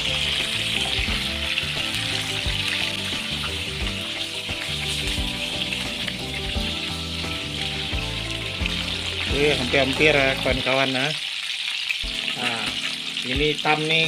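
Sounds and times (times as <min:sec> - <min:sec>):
background music: 0:00.0 - 0:11.3, 0:12.0 - 0:14.0
pork sizzling in a pan: 0:00.0 - 0:14.0.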